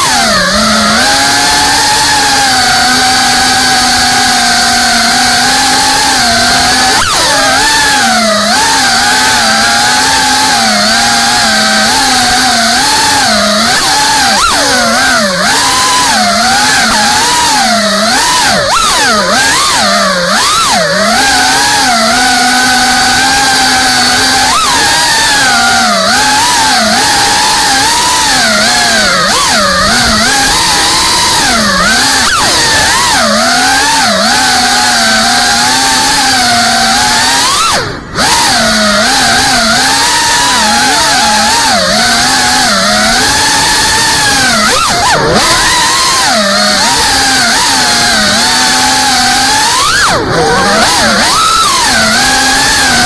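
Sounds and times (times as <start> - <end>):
drone propellers buzzing: 0.0 - 53.0
quadcopter motors whining: 0.0 - 53.0.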